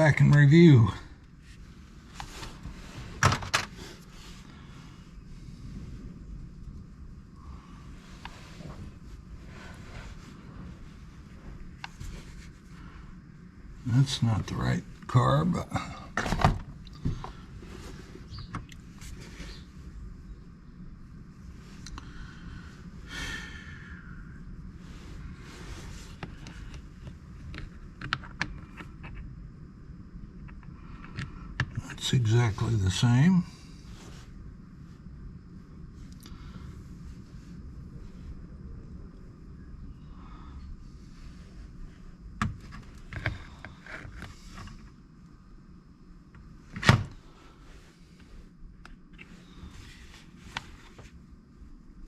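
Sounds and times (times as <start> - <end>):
low steady rumble: 0.0 - 52.0.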